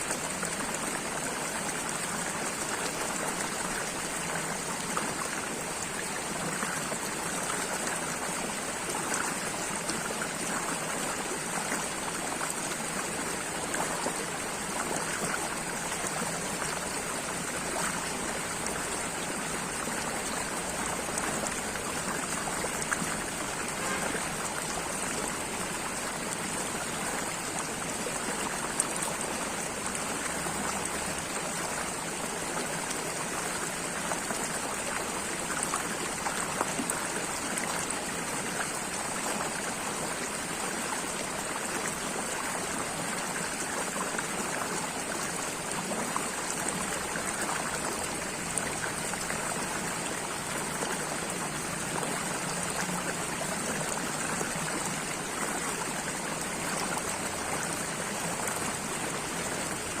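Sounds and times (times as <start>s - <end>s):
stream water rushing: 0.0s - 60.0s.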